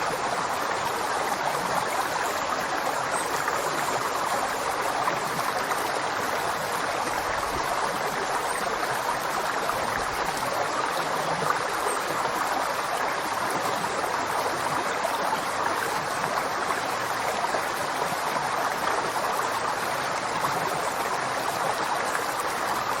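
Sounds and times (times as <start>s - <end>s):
river flowing over rocks: 0.0s - 23.0s.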